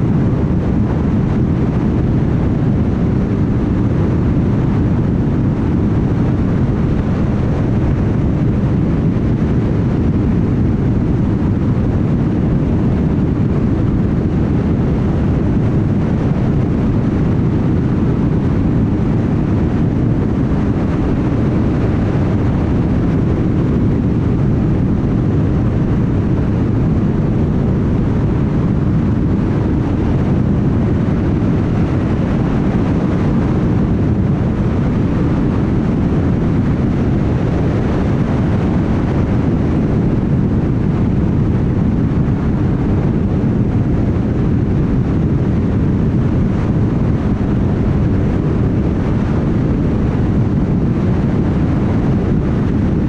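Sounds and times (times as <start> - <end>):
car tyre and wind noise: 0.0 - 53.0.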